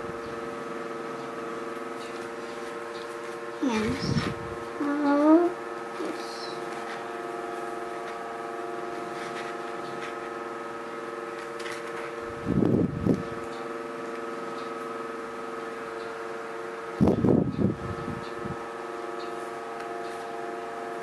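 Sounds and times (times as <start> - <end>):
steady multi-tone hum: 0.0 - 21.0.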